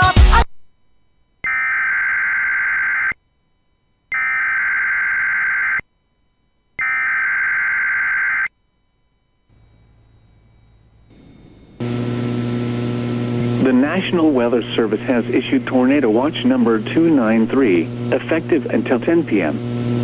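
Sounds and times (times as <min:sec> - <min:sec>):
faint hum: 0:00.5 - 0:20.0.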